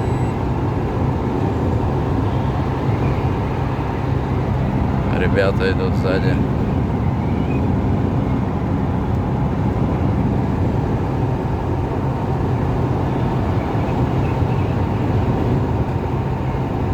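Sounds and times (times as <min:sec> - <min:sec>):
car road and engine noise: 0:00.0 - 0:16.9.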